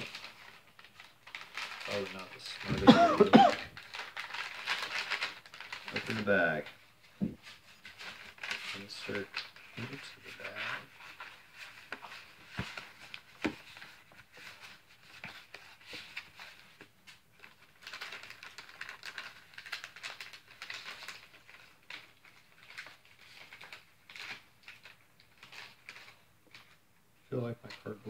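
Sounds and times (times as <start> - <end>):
packaging rustling and crinkling: 0.0 - 26.8.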